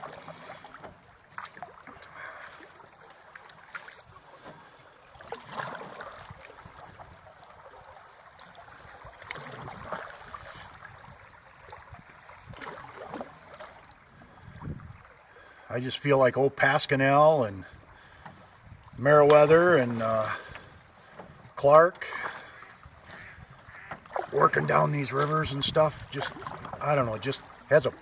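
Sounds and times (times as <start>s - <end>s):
paddle splashing through water: 0.0s - 28.0s.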